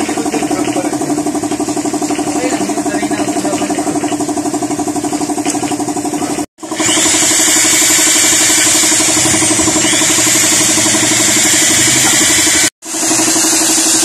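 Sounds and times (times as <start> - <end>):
small motor running: 0.0 - 14.0.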